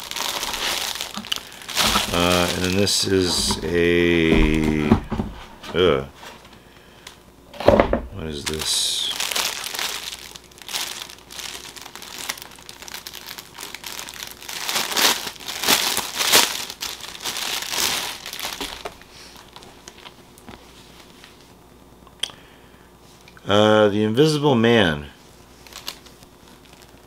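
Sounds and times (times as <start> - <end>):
plastic packaging crinkling: 0.0 - 7.2, 8.2 - 21.2, 25.4 - 27.0.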